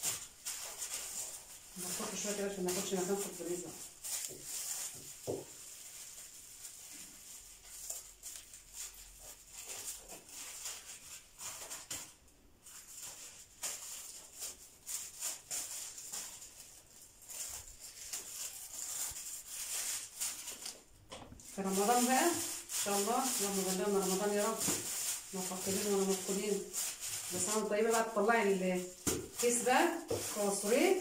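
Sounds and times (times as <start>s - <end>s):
plastic bags rustling: 0.0s - 31.0s.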